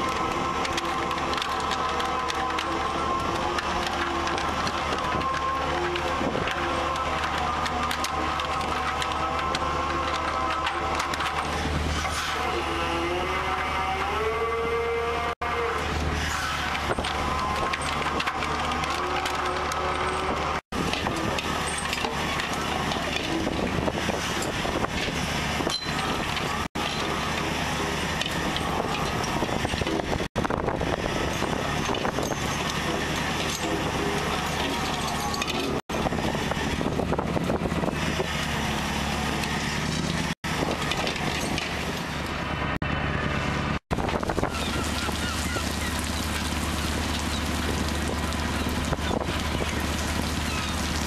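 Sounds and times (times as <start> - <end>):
dense wash of machinery noise: 0.0 - 51.0
low engine hum: 0.0 - 51.0.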